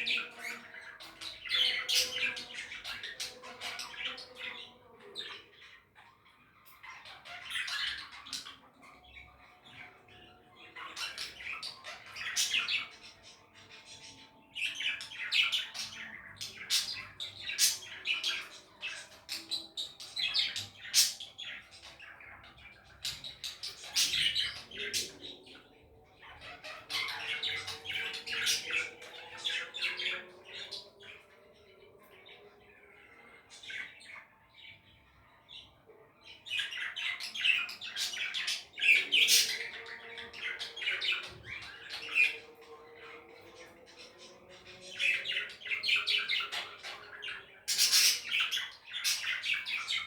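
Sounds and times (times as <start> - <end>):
budgerigars chattering and warbling: 0.0 - 31.7, 35.6 - 50.0.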